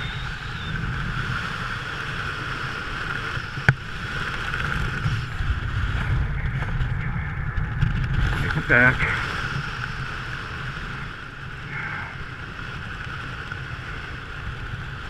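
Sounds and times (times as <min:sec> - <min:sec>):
motor drone: 0:00.0 - 0:15.0
wind noise on microphone: 0:00.0 - 0:15.0.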